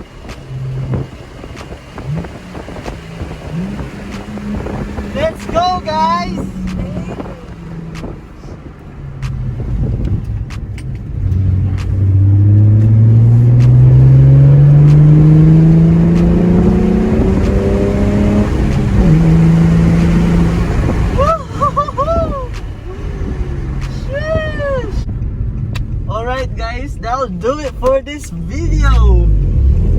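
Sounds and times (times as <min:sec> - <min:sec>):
car engine accelerating hard: 0:00.0 - 0:29.9.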